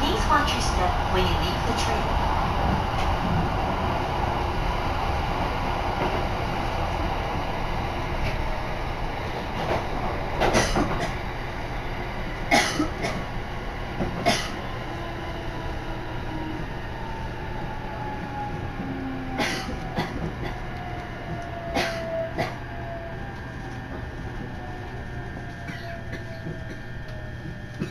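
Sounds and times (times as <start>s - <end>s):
train carriage rumble: 0.0s - 27.9s.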